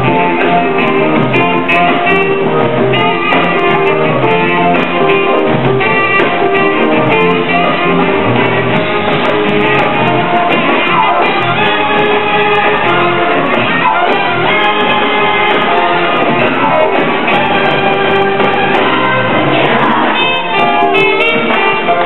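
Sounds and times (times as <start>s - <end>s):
jazz band playing: 0.0s - 22.0s.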